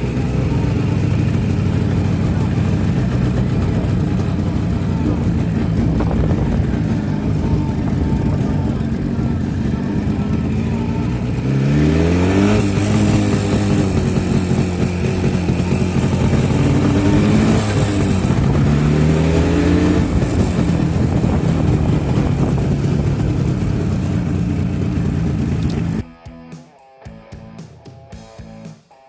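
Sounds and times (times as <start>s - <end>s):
two-stroke motorcycle engine revving: 0.0s - 26.1s.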